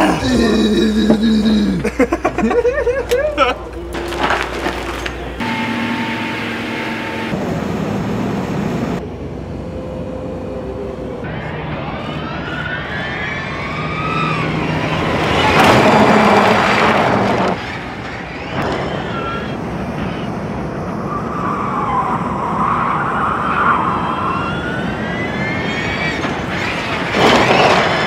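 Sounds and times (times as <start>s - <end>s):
electric cars whining past: 3.7s - 28.0s.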